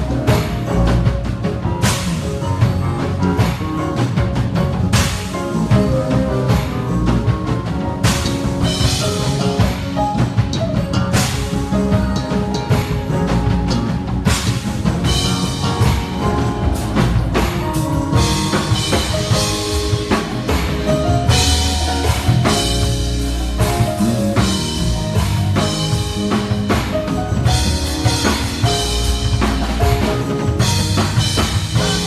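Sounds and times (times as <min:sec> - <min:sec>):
live band playing: 0:00.0 - 0:32.0.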